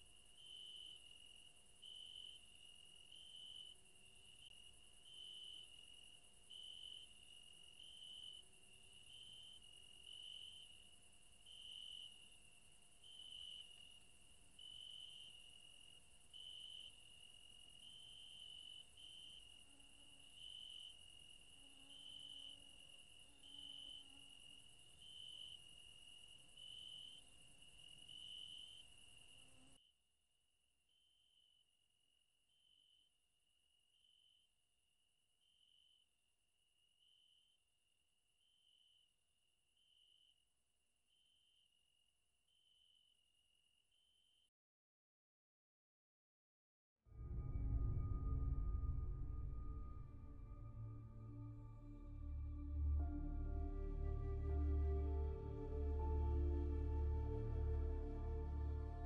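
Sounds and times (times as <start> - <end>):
faint crickets chirping: 0.0 - 44.5, 47.2 - 59.0.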